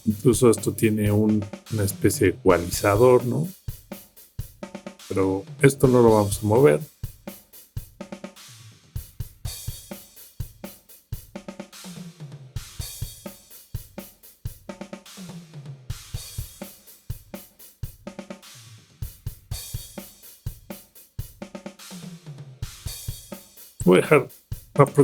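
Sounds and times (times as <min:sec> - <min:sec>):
snare drum: 0:00.0 - 0:25.0.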